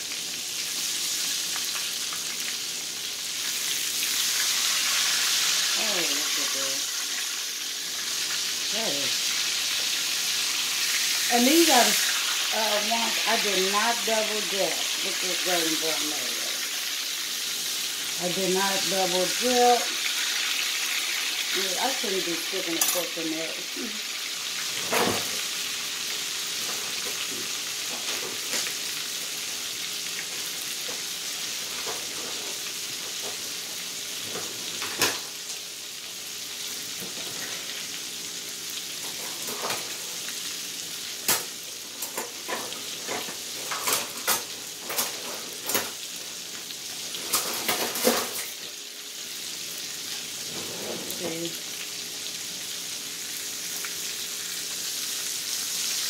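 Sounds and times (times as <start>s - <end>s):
meat sizzling in hot oil: 0.0s - 56.0s.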